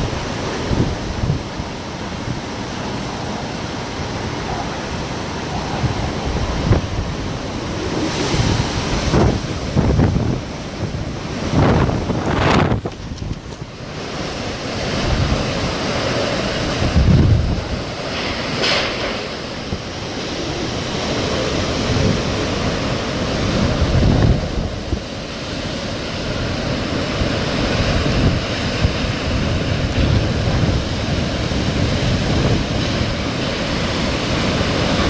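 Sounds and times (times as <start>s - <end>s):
strong wind rushing: 0.0s - 35.0s
wind buffeting microphone: 0.0s - 35.0s.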